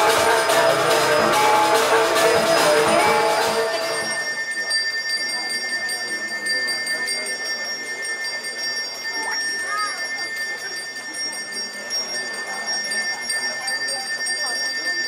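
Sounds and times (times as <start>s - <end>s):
faint murmur of voices: 0.0s - 15.0s
gamelan music with bells: 0.0s - 15.0s
high-pitched bell ringing: 0.0s - 15.0s.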